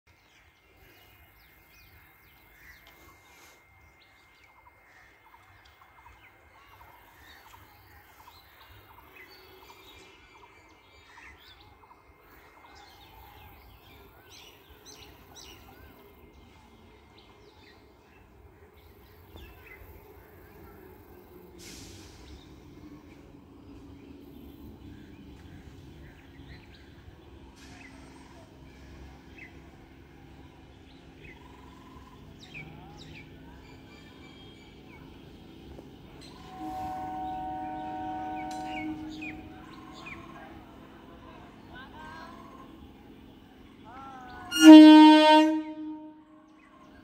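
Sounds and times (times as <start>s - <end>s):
train rumble approaching: 0.1s - 47.0s.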